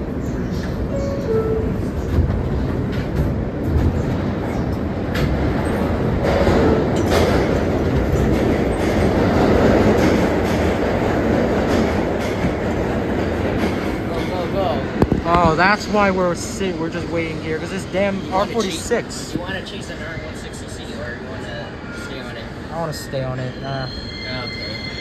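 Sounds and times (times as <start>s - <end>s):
subway wheels rumbling on rail: 0.0s - 25.0s.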